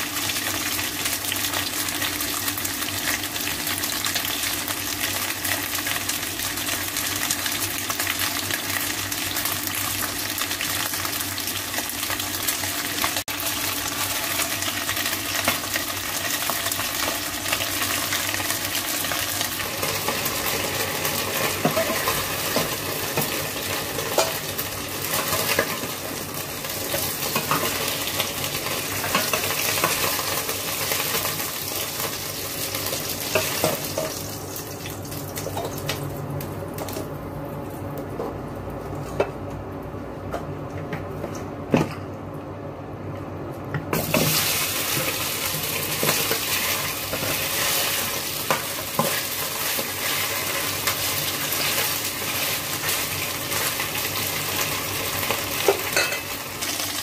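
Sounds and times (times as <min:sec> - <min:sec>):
meat sizzling in a wok: 0:00.0 - 0:35.5, 0:43.9 - 0:57.0.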